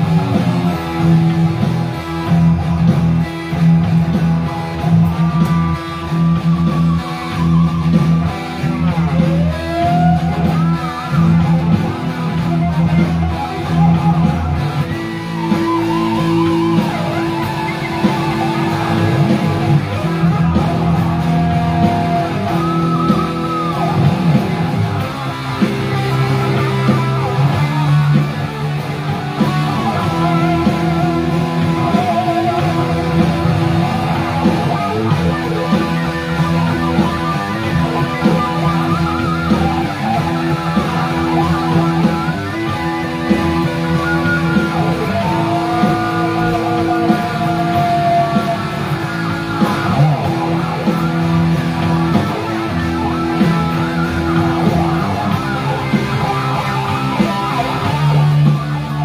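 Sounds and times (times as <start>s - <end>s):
electric guitar chord rhythm: 0.0s - 59.0s
electric guitar lead with bends: 0.0s - 59.0s.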